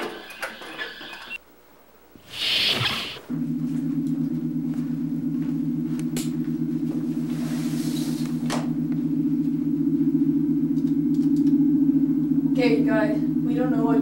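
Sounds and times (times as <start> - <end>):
low electronic hum with flutter: 0.0 - 14.0.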